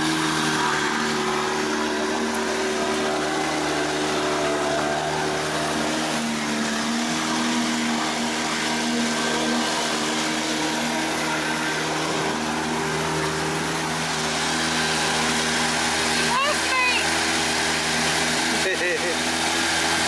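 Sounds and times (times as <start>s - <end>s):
outboard motor running: 0.0s - 20.0s
water rushing: 0.0s - 20.0s.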